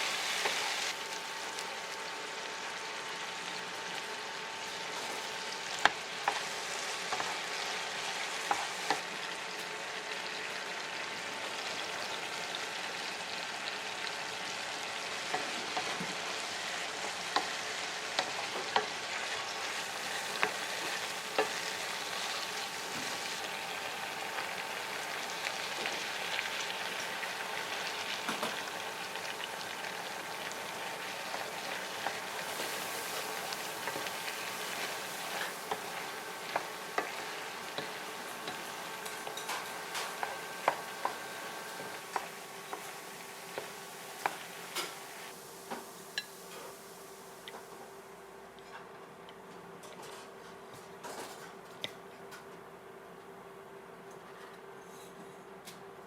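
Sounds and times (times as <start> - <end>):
food sizzling in a frying pan: 0.0 - 48.3.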